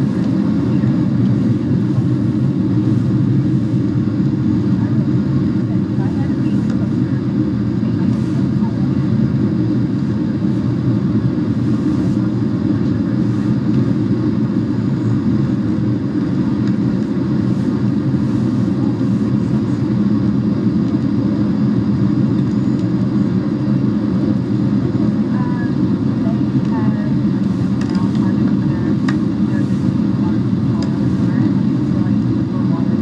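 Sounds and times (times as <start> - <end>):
jet engines rumbling: 0.0 - 33.0.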